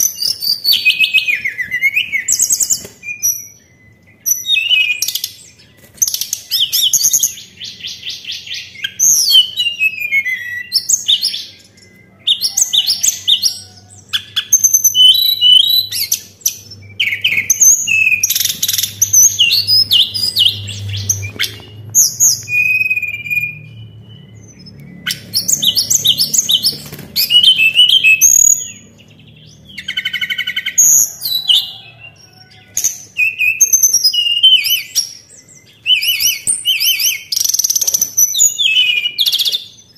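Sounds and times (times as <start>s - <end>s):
songbird whistles and trills: 0.0s - 39.9s.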